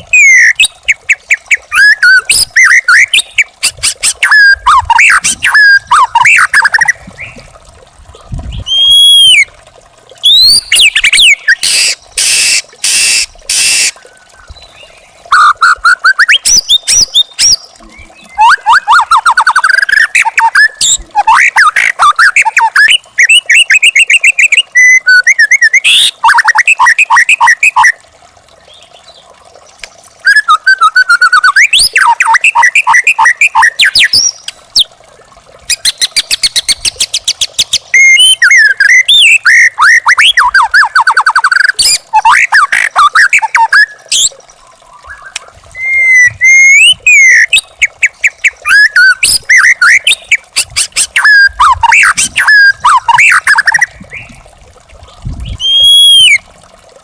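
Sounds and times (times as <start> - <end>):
songbird whistles and trills: 0.0 - 7.4, 8.5 - 9.5, 10.2 - 27.9, 30.2 - 34.9, 35.7 - 54.4, 55.4 - 56.4.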